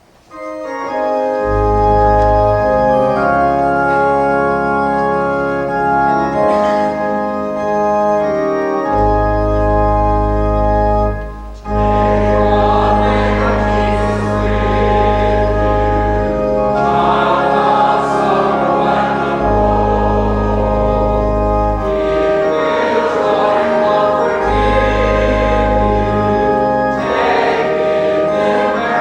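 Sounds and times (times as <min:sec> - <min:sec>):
church organ playing chords: 0:00.0 - 0:29.0.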